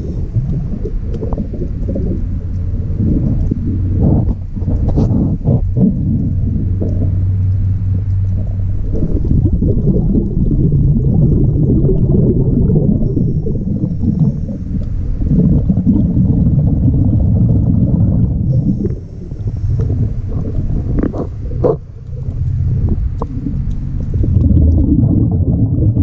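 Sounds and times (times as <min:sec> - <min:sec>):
diver's breathing bubbles: 0:00.0 - 0:26.0
underwater rumbling and gurgling: 0:00.0 - 0:26.0
water rushing past camera: 0:00.0 - 0:26.0.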